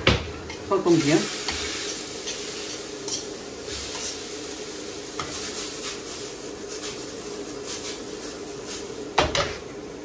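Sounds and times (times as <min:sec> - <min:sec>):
food sizzling in a pan: 0:00.4 - 0:10.0
stirring scrapes and rustles: 0:00.5 - 0:09.6.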